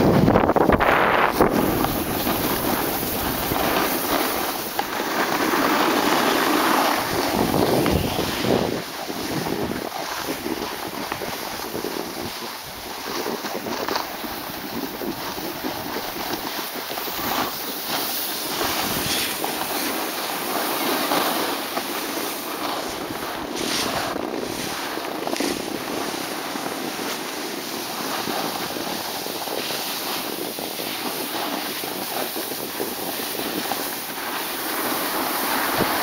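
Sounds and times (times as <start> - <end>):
wind buffeting microphone: 0.0 - 20.6, 22.5 - 36.0
snowboards scraping on snow: 0.0 - 36.0.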